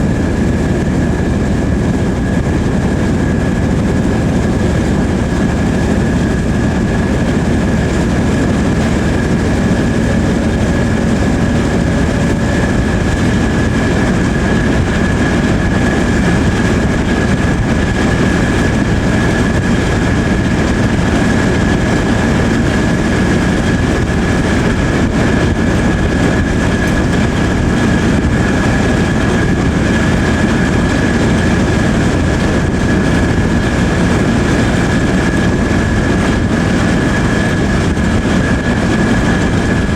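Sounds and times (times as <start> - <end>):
constant high whine: 0.0 - 39.9
train wheels rumbling over track: 0.0 - 39.9.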